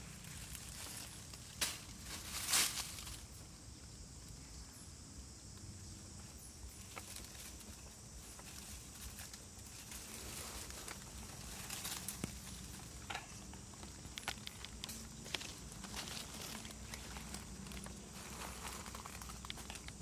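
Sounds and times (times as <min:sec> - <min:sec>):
faint rustling in dry leaves: 0:00.0 - 0:04.8, 0:05.4 - 0:20.0
steady high hiss: 0:00.0 - 0:20.0.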